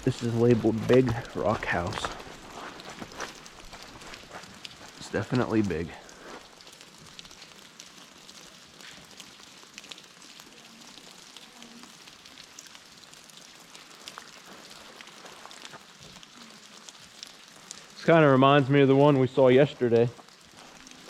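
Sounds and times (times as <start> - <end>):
faint steady rain: 0.0 - 21.0
water drips ticking: 0.0 - 21.0.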